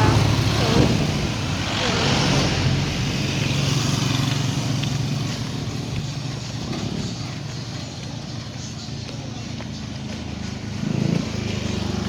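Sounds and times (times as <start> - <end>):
passing vehicle engine humming: 0.0 - 12.0.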